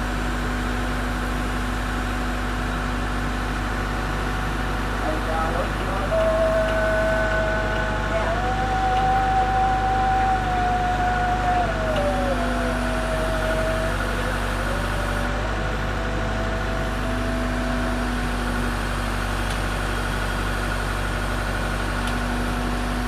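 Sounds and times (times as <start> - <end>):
backhoe loader engine whining: 0.1 - 23.0.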